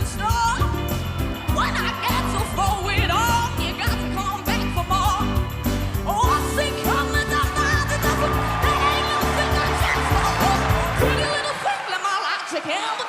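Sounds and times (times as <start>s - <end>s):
band backing with drum beat: 0.0s - 11.4s.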